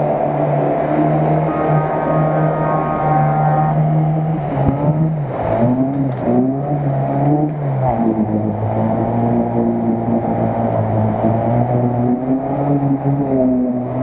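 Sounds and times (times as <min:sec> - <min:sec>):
car engine revving under load: 0:00.0 - 0:14.0.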